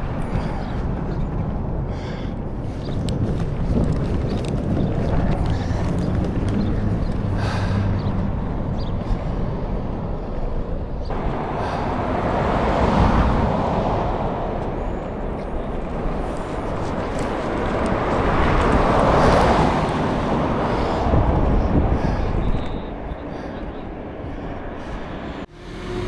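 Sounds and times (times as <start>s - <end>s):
passing vehicle rumble: 0.0s - 26.0s.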